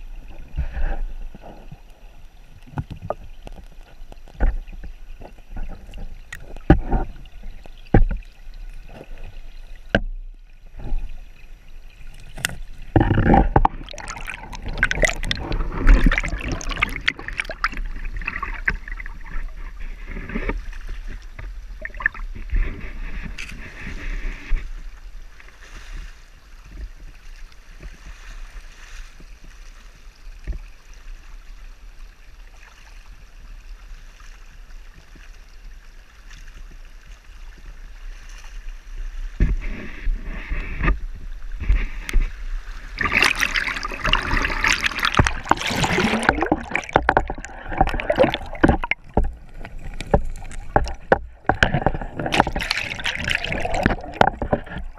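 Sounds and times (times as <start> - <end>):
water lapping and sloshing: 0.0 - 54.9
water splashing and churning: 0.0 - 54.9.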